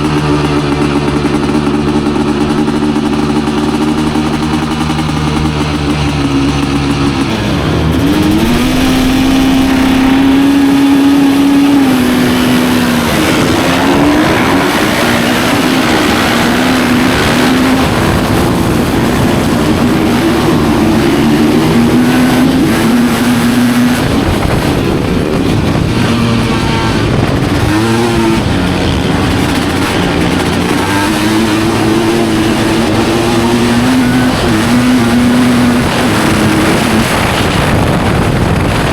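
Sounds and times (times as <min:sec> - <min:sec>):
motorcycle engine racing: 0:00.0 - 0:38.9.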